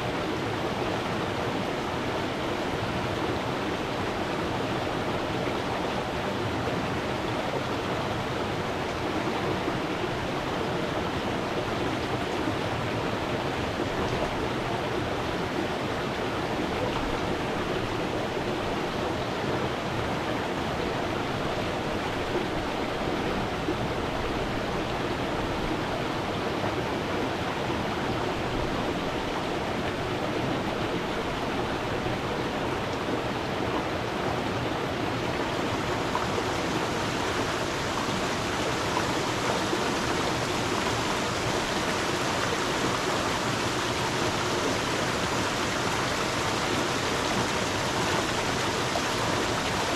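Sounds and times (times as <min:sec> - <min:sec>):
stream water flowing: 0:00.0 - 0:49.9.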